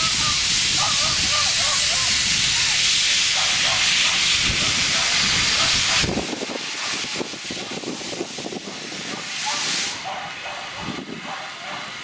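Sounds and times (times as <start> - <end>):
locomotive steam hissing: 0.0 - 12.0.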